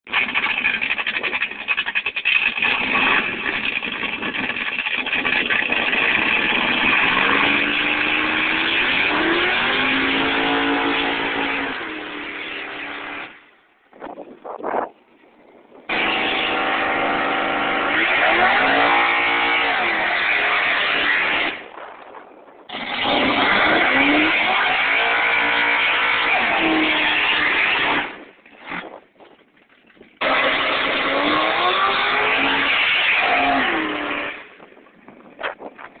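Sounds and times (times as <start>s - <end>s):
car engine revving: 0.1s - 13.5s, 15.9s - 21.8s, 22.7s - 28.8s, 30.2s - 34.6s.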